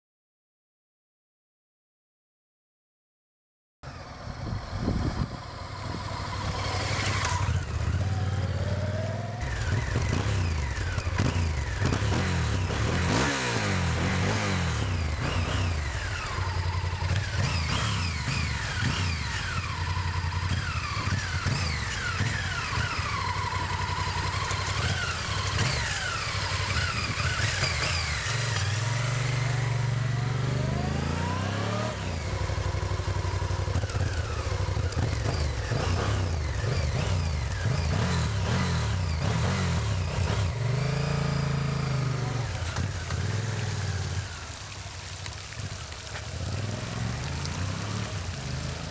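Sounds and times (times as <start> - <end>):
motorcycle engine revving: 3.8 - 44.9, 46.0 - 48.9.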